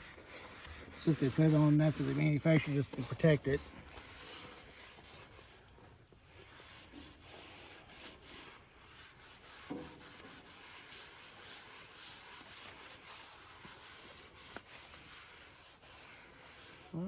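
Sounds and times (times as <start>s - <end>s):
scrubbing on steel griddle: 0.0s - 17.0s.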